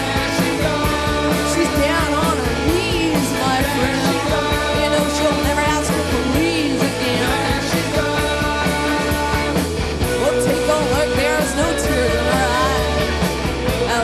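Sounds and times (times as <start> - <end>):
woman singing: 0.0 - 13.1
rock band playing live: 0.0 - 14.0.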